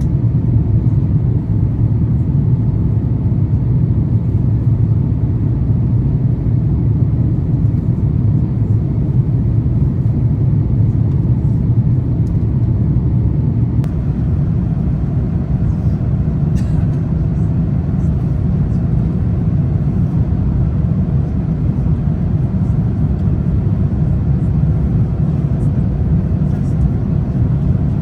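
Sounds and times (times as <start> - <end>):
airplane engines rumbling in cabin: 0.0 - 28.0.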